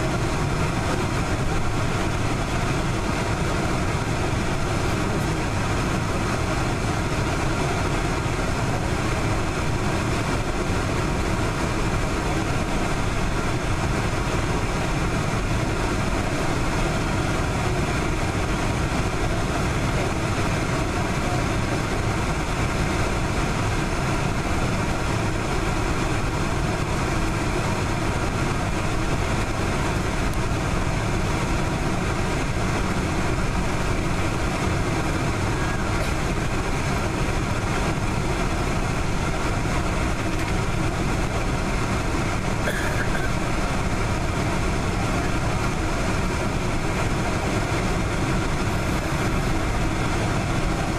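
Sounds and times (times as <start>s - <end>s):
jet engines rumbling in cabin: 0.0s - 50.9s.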